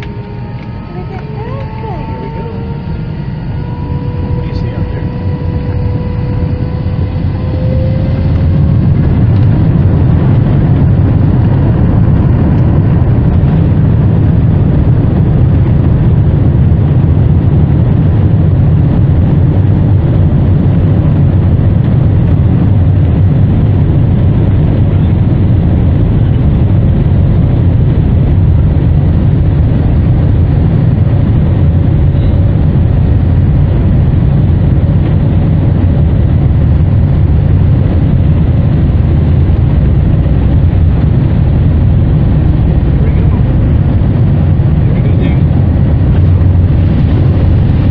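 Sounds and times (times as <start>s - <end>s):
faint steady whine: 0.0s - 47.9s
jet engine noise in cabin: 0.0s - 47.9s.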